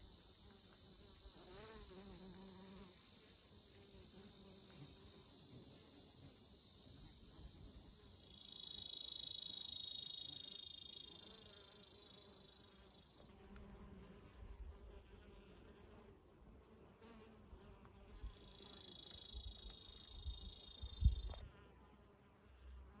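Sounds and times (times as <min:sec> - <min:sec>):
insects trilling: 0:00.0 - 0:14.4, 0:17.0 - 0:21.4.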